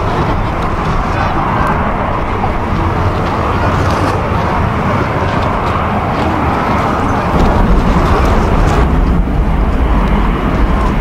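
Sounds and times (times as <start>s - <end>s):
deep rumble: 0.0s - 11.0s.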